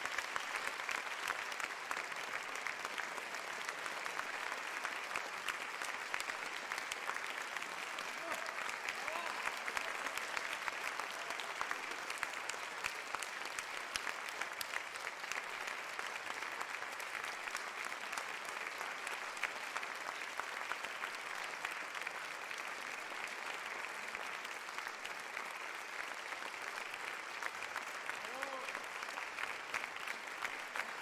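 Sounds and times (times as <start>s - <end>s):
crowd clapping: 0.0s - 31.0s.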